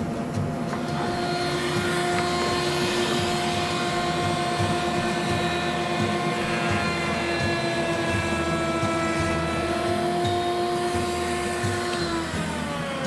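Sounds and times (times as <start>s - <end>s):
dust extraction vacuum: 0.0s - 13.0s
router whining: 0.0s - 13.0s.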